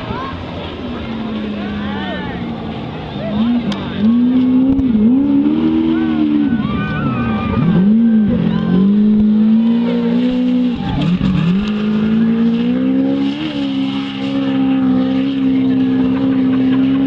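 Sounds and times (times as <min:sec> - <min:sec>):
engine running at high revs: 0:00.0 - 0:17.0.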